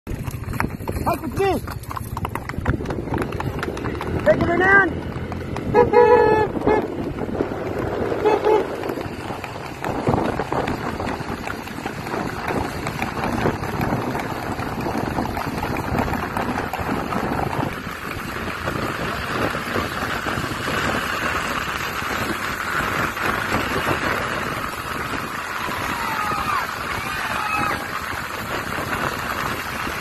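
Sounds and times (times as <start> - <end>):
wind buffeting microphone: 0.1 - 30.0.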